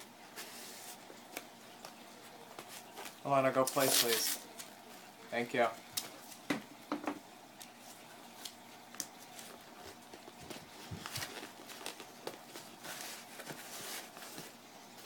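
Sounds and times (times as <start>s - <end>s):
paper towel crinkling: 0.0s - 6.5s, 7.6s - 15.0s.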